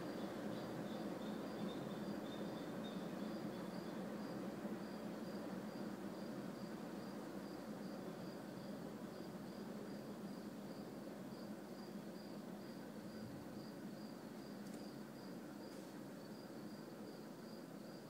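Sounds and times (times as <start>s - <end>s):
cricket chirping: 0.0s - 18.0s
faint low background noise: 0.0s - 18.0s.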